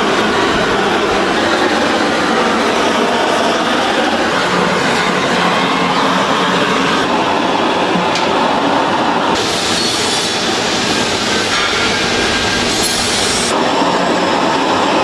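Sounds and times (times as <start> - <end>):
loud machinery noise: 0.0 - 15.0.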